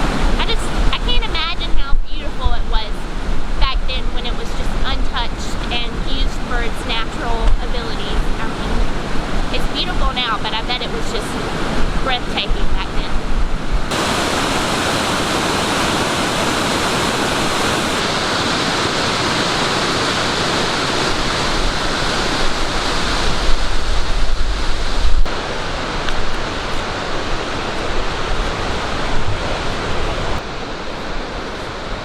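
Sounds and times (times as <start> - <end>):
waterfall rushing: 0.0 - 32.0
wind buffeting microphone: 0.0 - 32.0.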